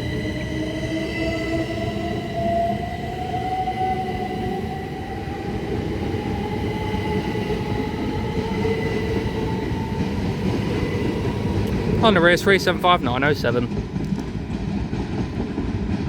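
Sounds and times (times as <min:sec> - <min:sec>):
traction motors whining: 0:00.0 - 0:14.4
train rumble: 0:00.0 - 0:16.0.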